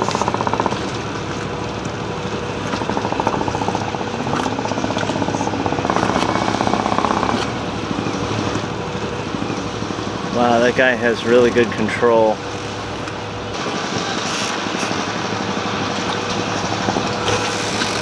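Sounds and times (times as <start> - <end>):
boat diesel engine pulsing: 0.0 - 18.0.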